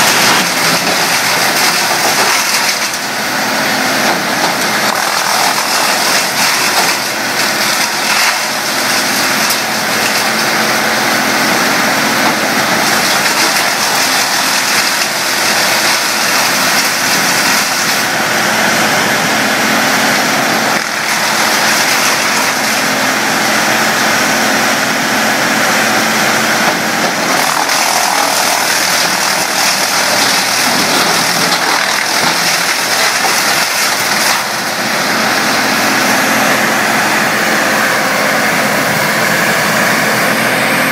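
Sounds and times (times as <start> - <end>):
wood chipper engine droning: 0.0 - 40.9.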